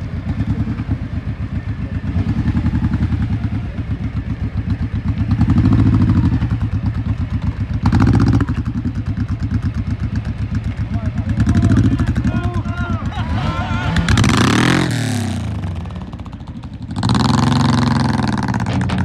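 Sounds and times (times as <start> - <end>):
motorcycle engine running at low speed: 0.0 - 19.0.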